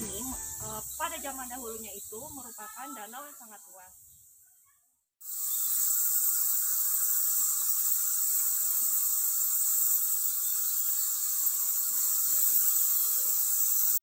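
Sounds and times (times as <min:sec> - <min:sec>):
high-pitched hiss: 0:00.0 - 0:04.5, 0:05.2 - 0:14.0.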